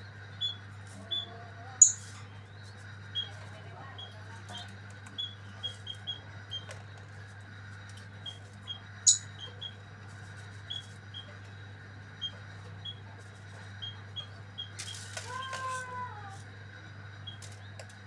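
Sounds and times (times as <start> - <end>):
dove chick peeping: 0.0 - 15.7.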